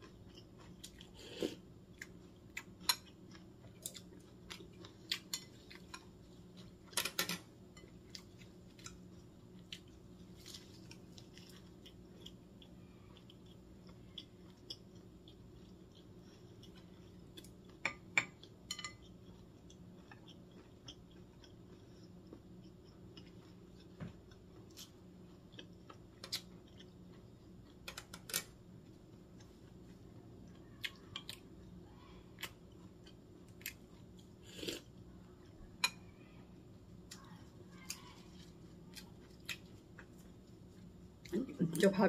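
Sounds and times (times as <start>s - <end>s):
person chewing food: 0.0s - 36.0s, 36.9s - 41.5s
low room hum: 0.0s - 42.0s.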